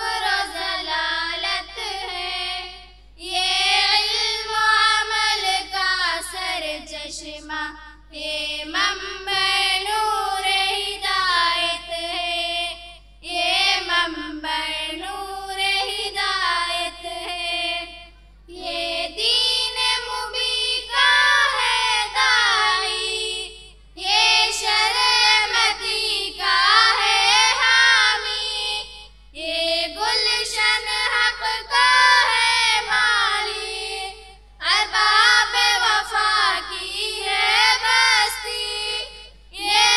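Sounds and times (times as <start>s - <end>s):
girls singing together: 0.0s - 39.9s.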